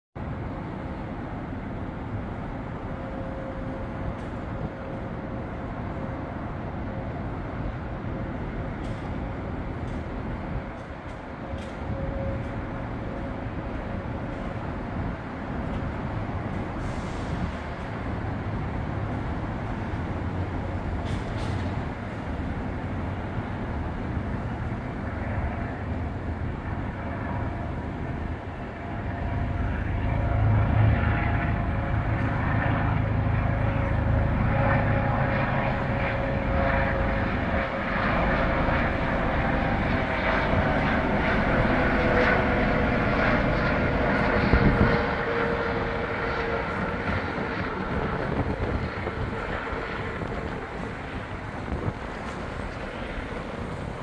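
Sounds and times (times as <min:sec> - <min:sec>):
helicopter in flight: 0:00.2 - 0:54.0.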